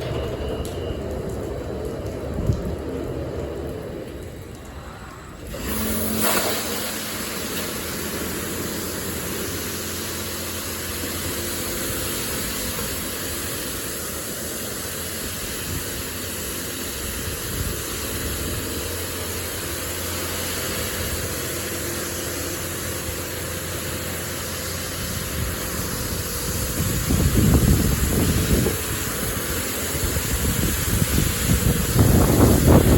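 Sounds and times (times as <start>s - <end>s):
car wash rushing hiss: 0.0s - 32.9s.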